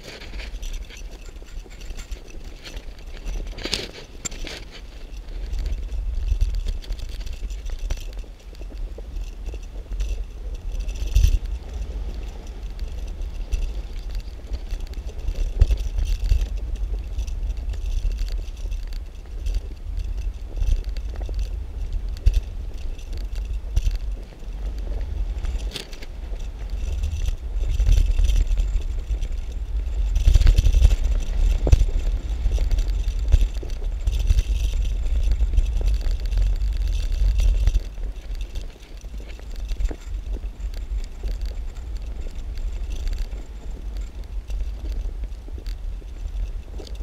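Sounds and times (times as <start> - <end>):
bicycle tyre noise: 0.0 - 47.0
bike rattles and clicks: 0.0 - 47.0
wind buffeting microphone: 0.0 - 47.0.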